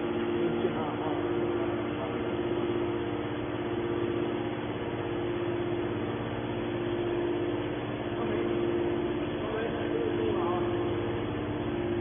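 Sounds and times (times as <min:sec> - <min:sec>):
hydraulic power pack humming: 0:00.0 - 0:12.0.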